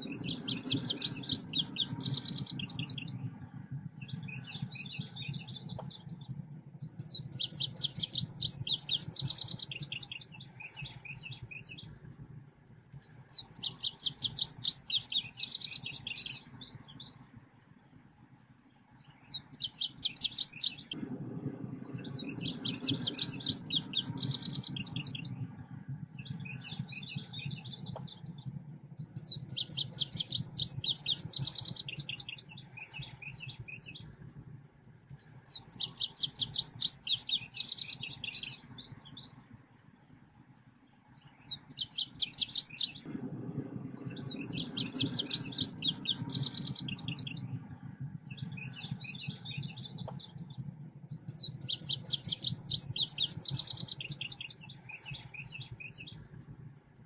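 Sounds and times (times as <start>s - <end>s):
bird chattering song: 0.0s - 3.2s, 4.0s - 11.9s, 13.0s - 17.3s, 19.0s - 21.0s, 21.8s - 25.4s, 26.2s - 34.1s, 35.2s - 39.4s, 41.1s - 43.1s, 44.0s - 47.6s, 48.2s - 56.3s
faint low hum: 0.0s - 57.0s.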